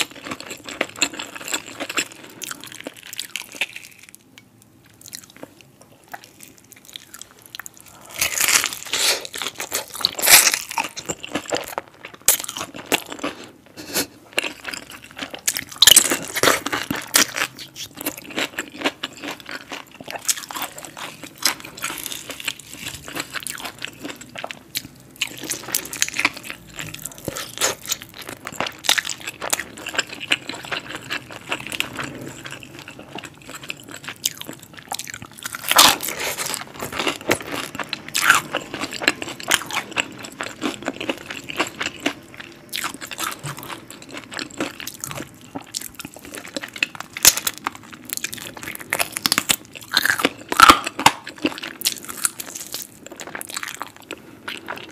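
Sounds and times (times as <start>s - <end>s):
chewing: 5.0s - 54.9s.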